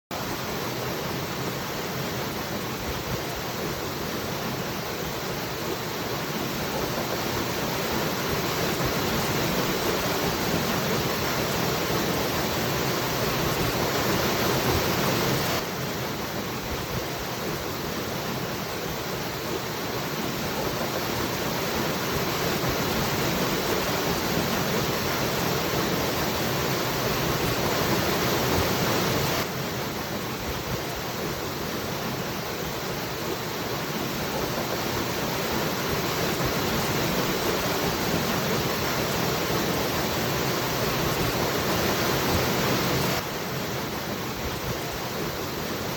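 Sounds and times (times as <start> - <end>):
waterfall rushing: 0.2 - 45.9.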